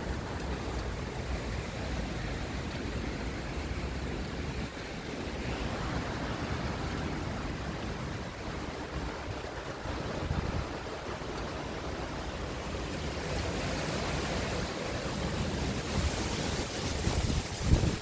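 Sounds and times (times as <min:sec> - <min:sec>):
rain rushing: 0:00.0 - 0:18.0
wind buffeting microphone: 0:00.0 - 0:18.0.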